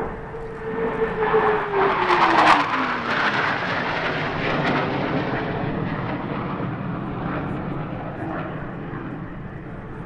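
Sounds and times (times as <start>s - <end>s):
jet flying past: 0.0s - 10.0s.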